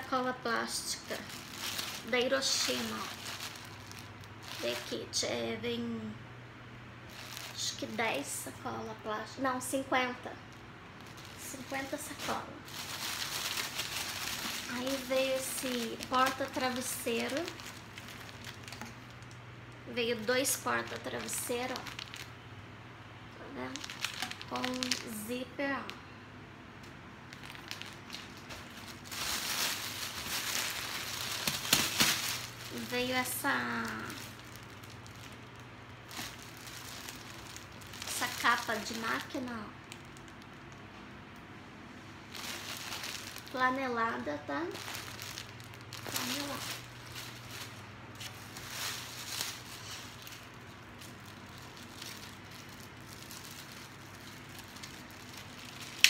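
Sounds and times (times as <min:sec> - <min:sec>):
plastic packaging crinkling: 0:00.0 - 0:05.3, 0:07.0 - 0:08.3, 0:09.6 - 0:22.5, 0:23.4 - 0:26.0, 0:26.8 - 0:41.4, 0:42.2 - 0:56.0
steady low hum: 0:00.0 - 0:56.0.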